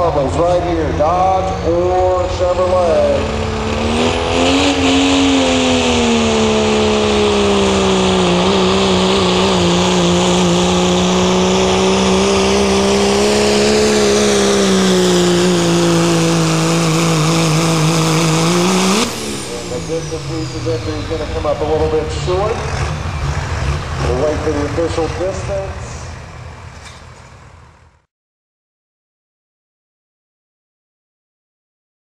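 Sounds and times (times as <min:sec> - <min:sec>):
diesel truck engine at full throttle: 0:00.0 - 0:28.1.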